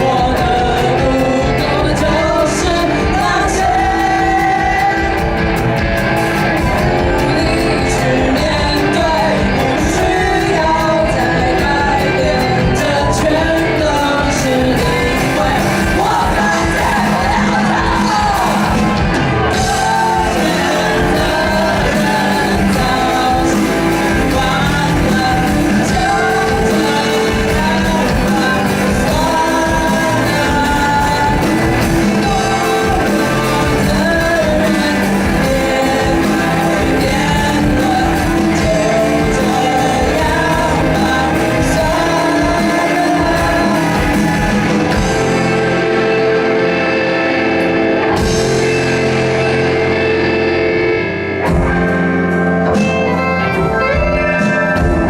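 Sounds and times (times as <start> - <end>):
lead singer singing: 0.0 - 55.0
live rock band playing: 0.0 - 55.0.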